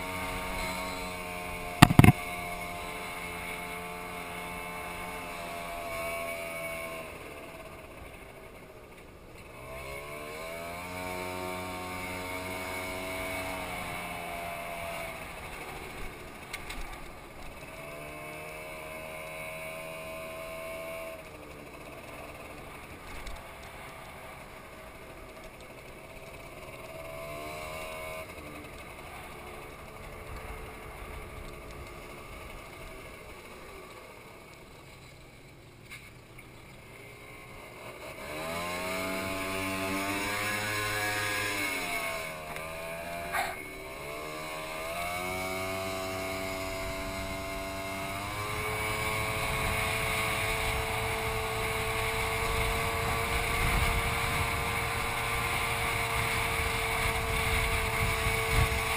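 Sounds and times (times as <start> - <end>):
motor scooter engine running: 0.0 - 58.9.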